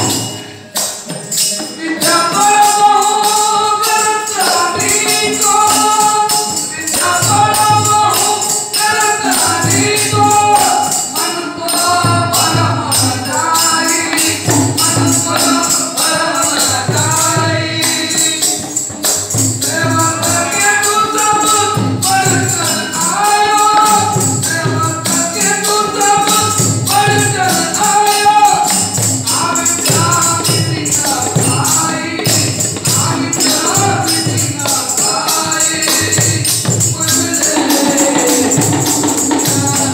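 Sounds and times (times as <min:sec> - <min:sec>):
jingling percussion: 0:00.0 - 0:39.9
voices singing devotional melody: 0:00.0 - 0:39.9.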